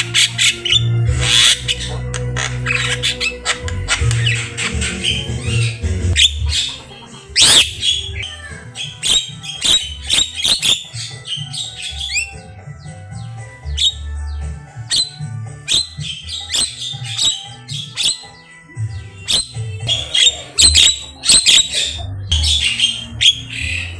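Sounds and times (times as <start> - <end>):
myna bird singing: 0.0 - 23.9.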